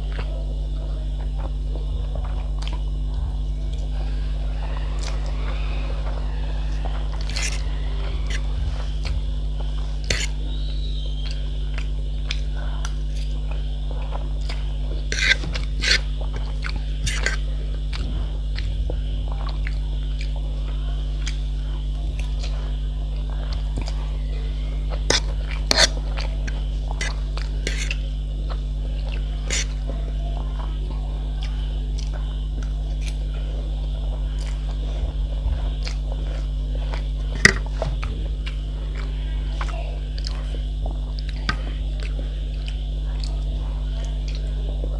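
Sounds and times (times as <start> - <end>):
chewing and biting: 0.0 - 44.9
low electrical hum: 0.0 - 44.9.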